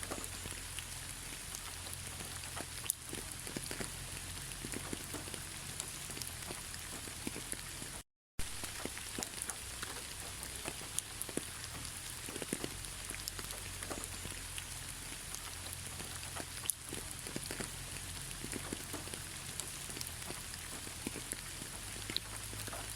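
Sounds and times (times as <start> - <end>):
steady rain falling: 0.0 - 22.9.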